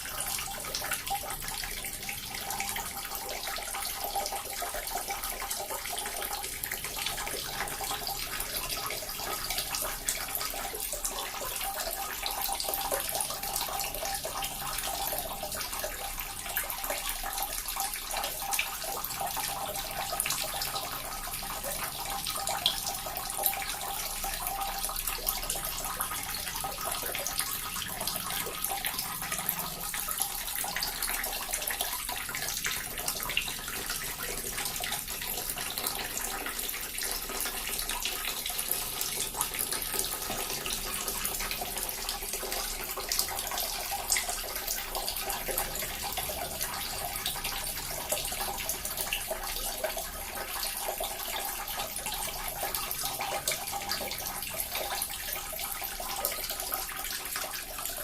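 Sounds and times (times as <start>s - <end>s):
water fountain trickling and splashing: 0.0s - 58.0s.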